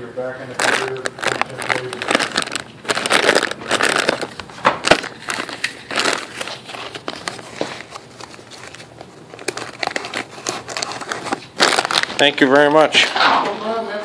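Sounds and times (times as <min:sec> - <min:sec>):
plastic bags crinkling: 0:00.3 - 0:13.2.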